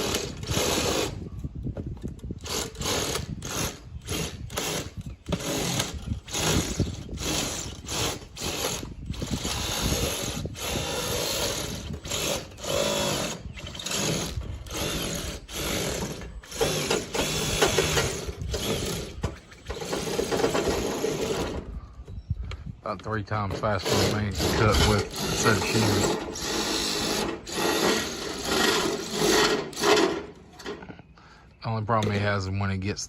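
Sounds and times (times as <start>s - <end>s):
power shears cutting sheet metal: 0.0s - 1.2s, 2.4s - 21.6s, 23.5s - 30.8s.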